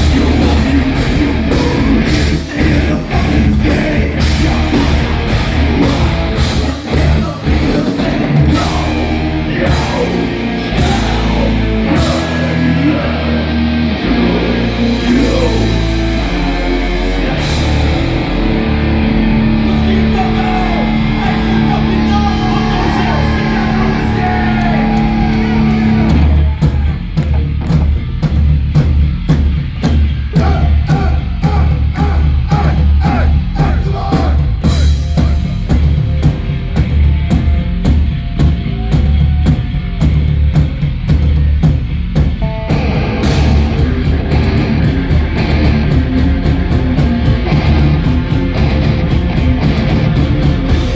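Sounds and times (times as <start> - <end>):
fast drum strikes: 0.0 - 12.9, 19.6 - 50.9
rock band playing live: 0.0 - 50.9.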